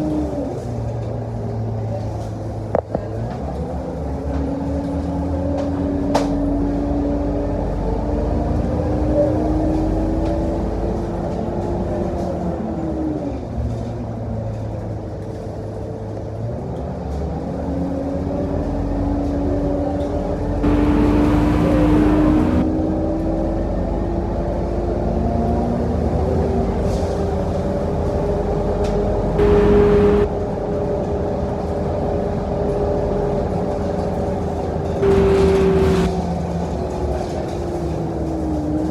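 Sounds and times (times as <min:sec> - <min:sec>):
bus diesel engine and whine: 0:00.0 - 0:38.9.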